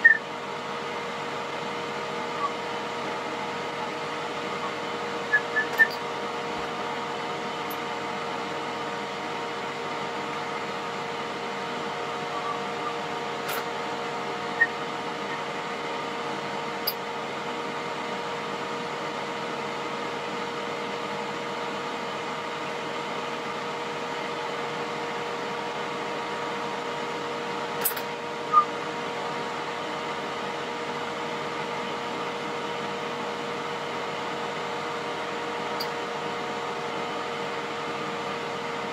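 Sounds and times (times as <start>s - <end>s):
steady mechanical hum: 0.0s - 38.9s.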